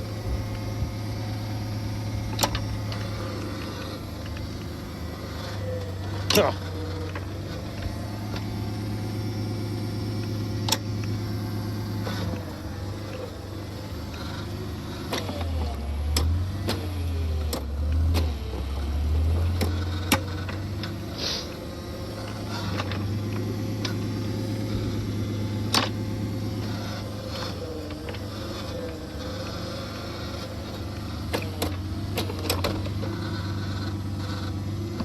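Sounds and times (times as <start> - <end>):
auger engine idling: 0.0 - 35.0.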